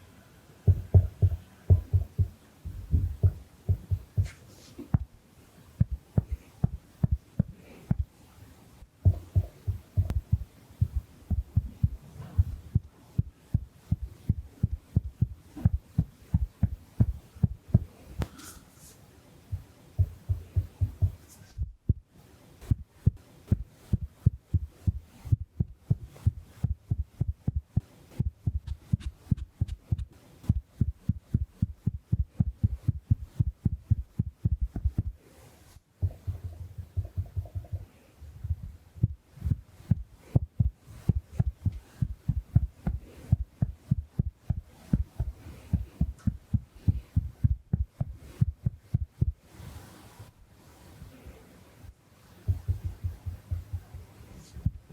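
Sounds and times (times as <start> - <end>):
sponge patting microphone: 0.6 - 5.2, 5.8 - 8.2, 9.0 - 49.8, 52.5 - 54.9.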